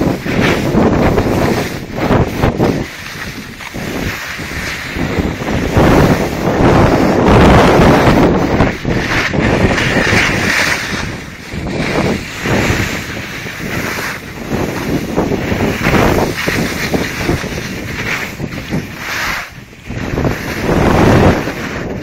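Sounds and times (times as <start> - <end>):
snowblades sliding through snow: 0.0 - 22.0
wind buffeting microphone: 0.0 - 22.0.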